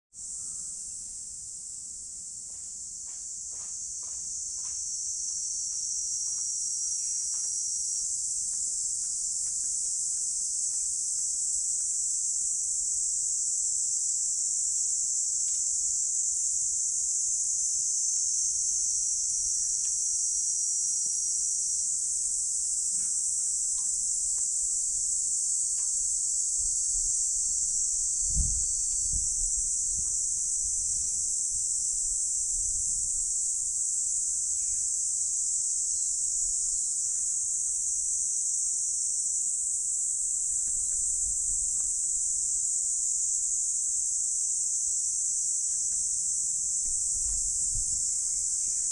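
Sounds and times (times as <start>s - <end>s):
cicadas droning: 0.2s - 48.9s.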